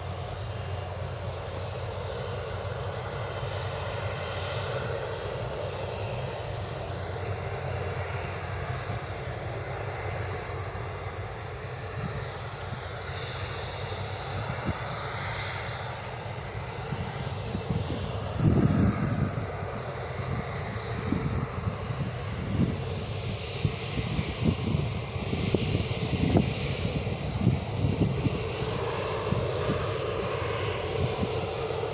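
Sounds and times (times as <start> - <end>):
jet engines roaring: 0.0 - 31.9
wind buffeting microphone: 0.0 - 31.9.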